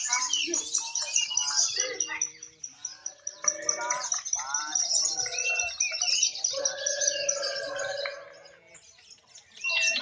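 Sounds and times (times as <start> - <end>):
lovebirds chirping: 0.0 - 10.0.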